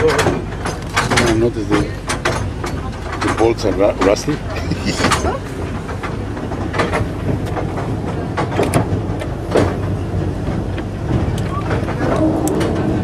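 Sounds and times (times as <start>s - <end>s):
train carriage rumbling: 0.0s - 13.0s
wheel clacks and knocks: 0.0s - 13.0s.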